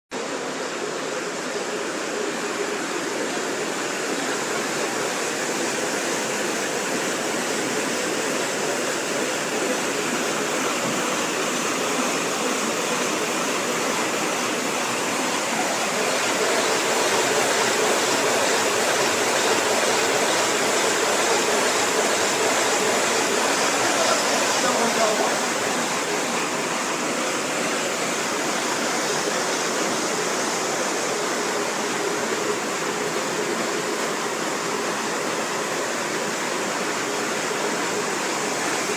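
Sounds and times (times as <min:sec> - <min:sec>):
water rushing through mill: 0:00.1 - 0:38.9.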